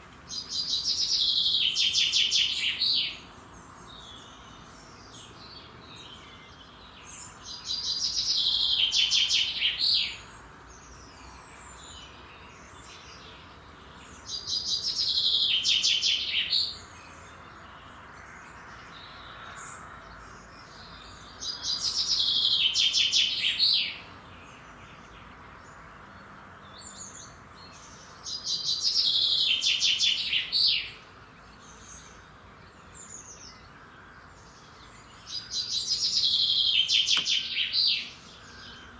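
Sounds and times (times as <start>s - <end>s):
songbird trilled song: 0.1s - 19.8s, 20.4s - 25.8s, 26.6s - 38.9s.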